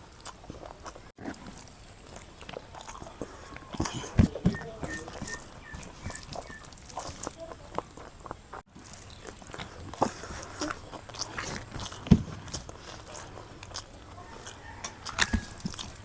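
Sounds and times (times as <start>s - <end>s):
person chewing and mouth sounds: 0.0s - 16.0s.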